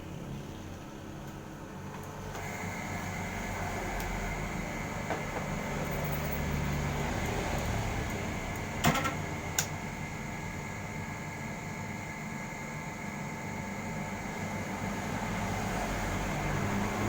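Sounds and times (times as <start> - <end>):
washing machine hum: 0.0 - 17.0.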